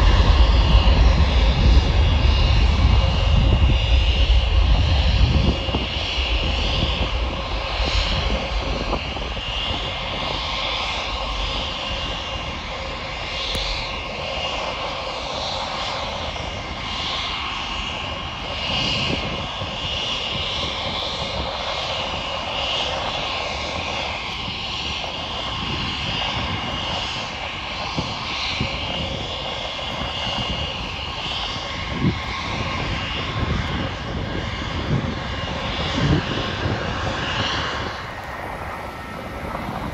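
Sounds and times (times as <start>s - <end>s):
high jet engine whine: 0.0s - 39.9s
jet takeoff rumble: 0.0s - 39.9s.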